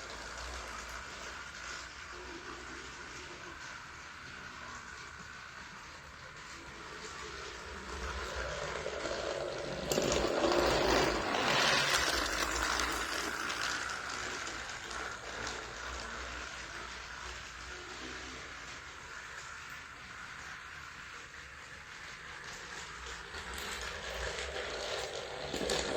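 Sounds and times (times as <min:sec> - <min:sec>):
toy train engine whirring: 0:00.0 - 0:25.9.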